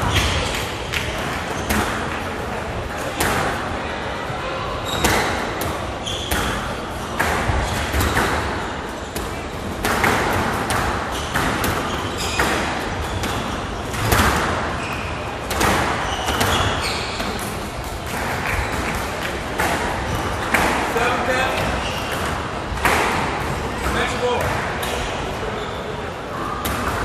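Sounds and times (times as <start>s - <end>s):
court shoes squeaking: 0.0s - 3.7s, 4.6s - 27.0s
squash ball impacts: 0.0s - 3.8s, 4.8s - 25.4s, 26.5s - 27.0s.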